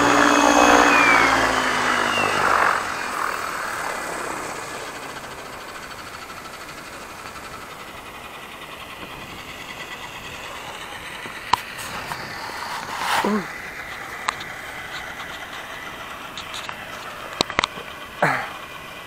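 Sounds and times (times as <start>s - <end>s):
helicopter motor whine spooling down: 0.0s - 19.0s.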